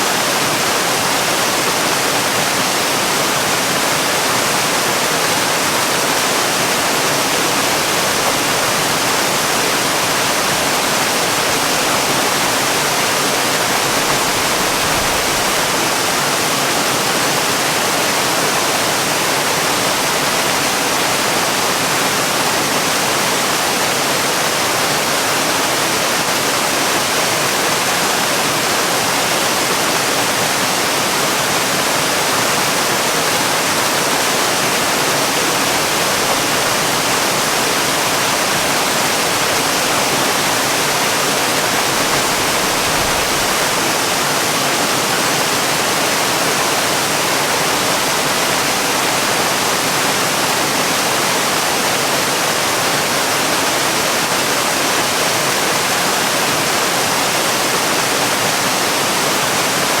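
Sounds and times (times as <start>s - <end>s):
waterfall hiss: 0.0s - 60.0s.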